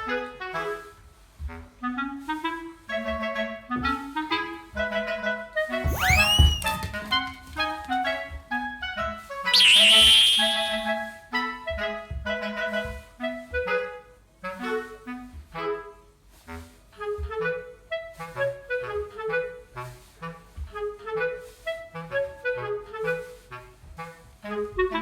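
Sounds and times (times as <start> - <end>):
light woodwind tune: 0.0 - 25.0.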